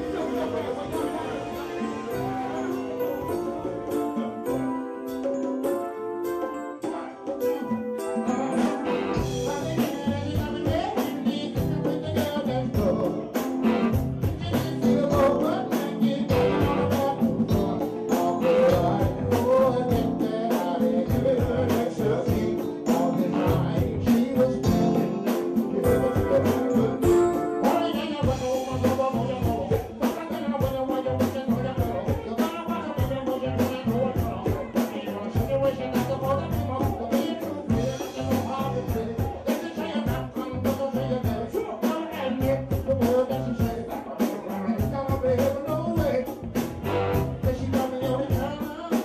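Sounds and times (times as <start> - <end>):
drum kit beat: 0.0 - 49.0
keyboard: 0.0 - 49.0
live band playing: 0.0 - 49.0.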